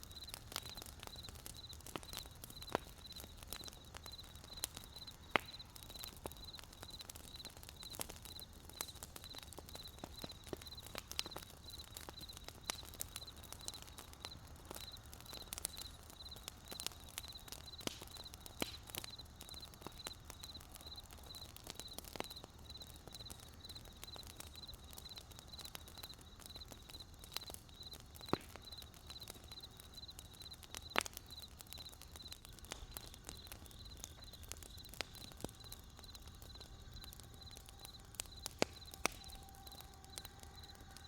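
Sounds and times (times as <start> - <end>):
campfire crackling and popping: 0.0 - 41.0
crickets chirping: 0.1 - 41.0.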